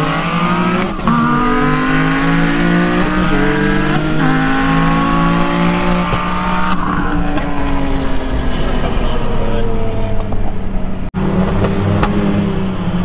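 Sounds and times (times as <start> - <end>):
car engine at full throttle: 0.0 - 13.0
wind and road noise: 0.0 - 13.0.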